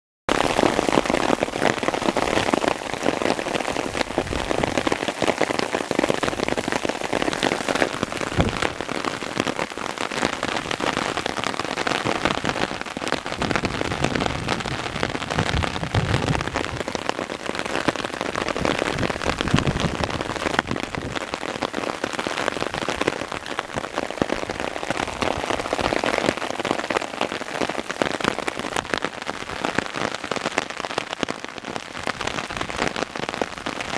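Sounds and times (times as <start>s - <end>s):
hail and rain falling: 0.3s - 33.9s.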